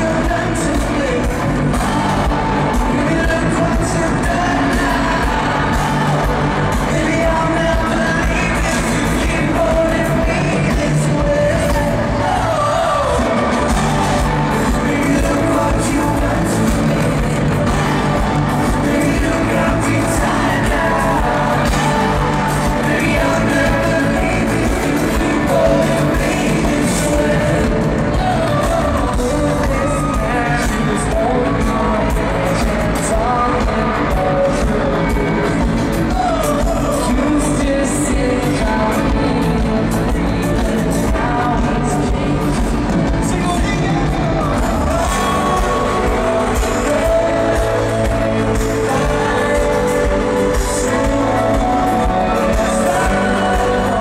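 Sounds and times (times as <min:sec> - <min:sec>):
live pop-rock band: 0:00.0 - 0:54.0
man singing: 0:00.0 - 0:54.0.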